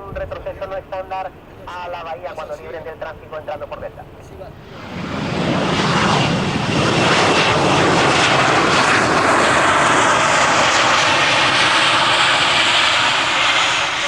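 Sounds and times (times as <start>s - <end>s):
jet engines at takeoff: 0.0s - 14.0s.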